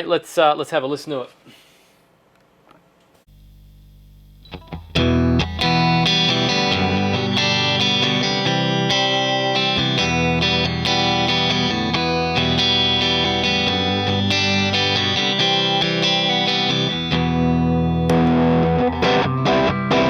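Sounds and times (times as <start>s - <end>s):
overdriven electric guitar: 3.4s - 20.0s.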